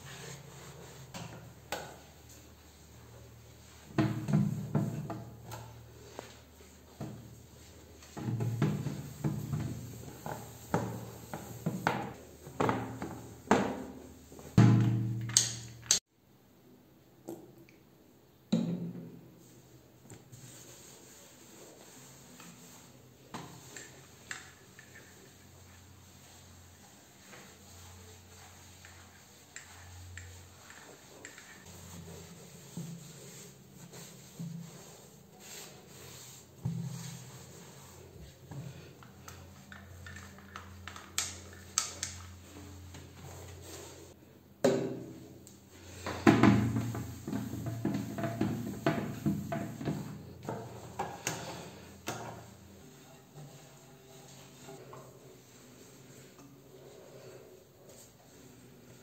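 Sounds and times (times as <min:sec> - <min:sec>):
cloth wiping countertop: 0:00.0 - 0:14.6, 0:19.4 - 0:44.2, 0:45.6 - 0:59.0.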